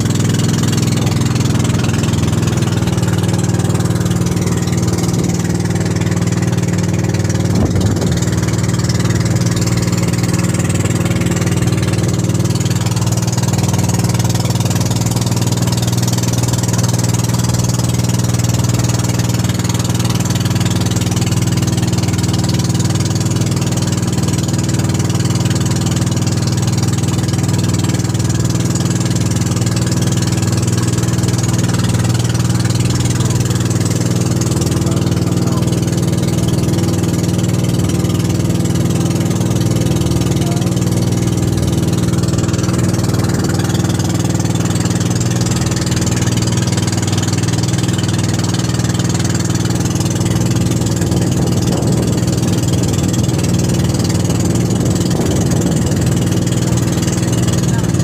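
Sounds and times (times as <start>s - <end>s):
boat engine drone: 0.0s - 58.0s
wind and water rushing: 0.0s - 58.0s.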